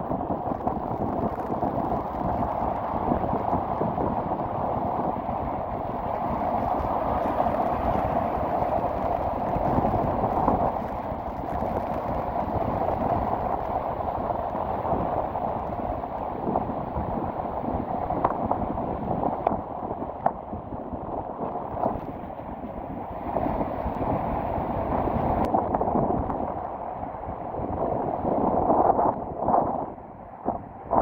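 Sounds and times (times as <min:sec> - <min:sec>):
sea waves breaking: 0:00.0 - 0:31.0
wind buffeting microphone: 0:00.0 - 0:31.0.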